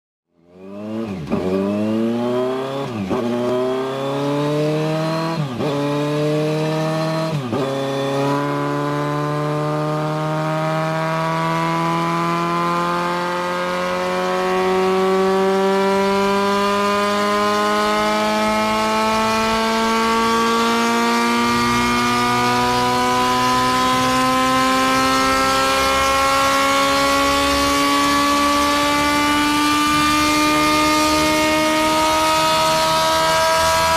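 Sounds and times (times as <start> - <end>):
motorcycle engine accelerating: 0.3 - 33.9.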